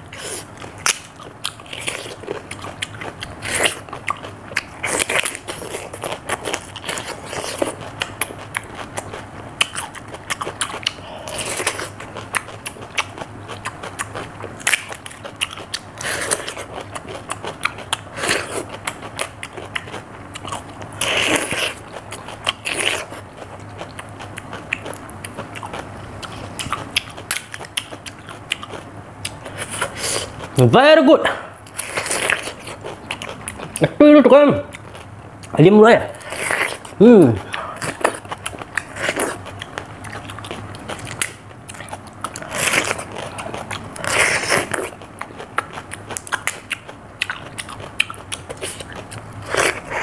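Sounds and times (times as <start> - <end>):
person chewing cucumber: 0.0 - 30.6, 31.5 - 34.0, 34.6 - 50.0.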